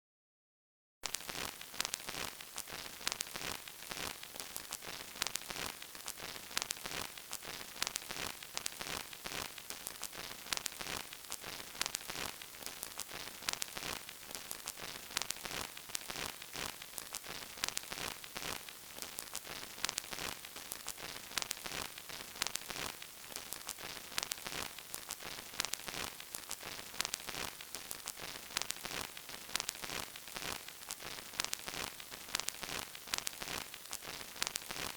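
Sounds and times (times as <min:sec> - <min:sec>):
vinyl record crackle: 0:01.0 - 0:34.9.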